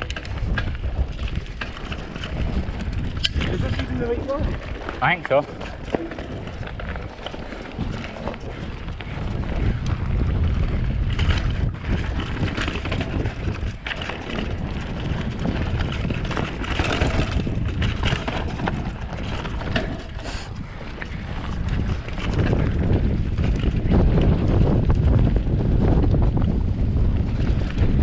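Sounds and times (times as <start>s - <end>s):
bike rattling over bumps: 0.0s - 28.0s
bike tyres on gravel: 0.0s - 28.0s
wind buffeting microphone: 0.0s - 28.0s.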